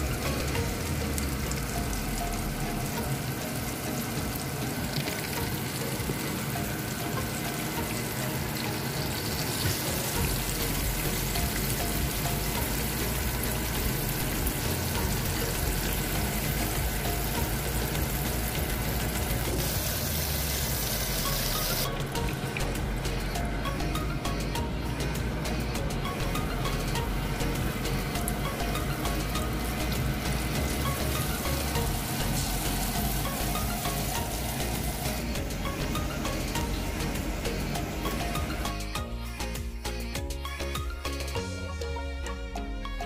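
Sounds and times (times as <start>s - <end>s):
oil sizzling in a pan: 0.0s - 40.0s
background music: 0.0s - 43.0s.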